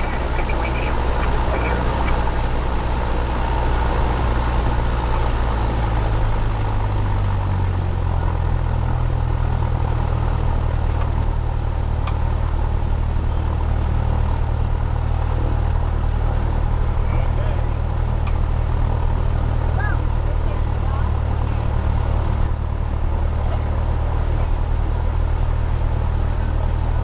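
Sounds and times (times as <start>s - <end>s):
airplane engine droning: 0.0s - 27.0s.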